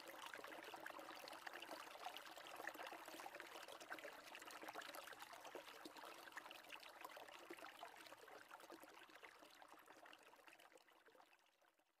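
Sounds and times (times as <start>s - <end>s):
faint trickling water: 0.0s - 12.0s.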